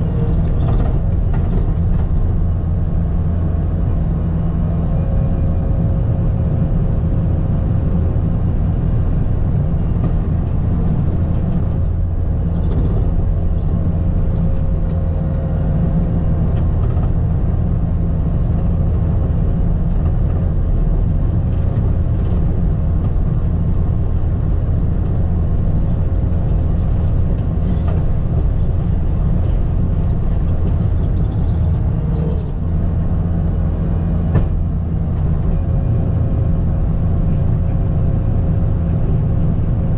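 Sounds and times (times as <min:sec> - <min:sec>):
skid steer engine droning: 0:00.0 - 0:39.9.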